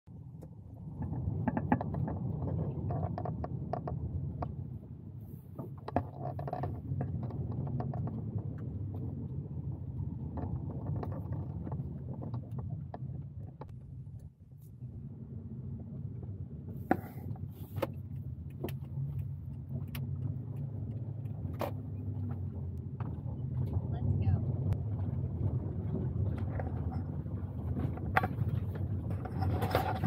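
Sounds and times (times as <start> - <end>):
low mechanical rumble: 0.1 - 30.0.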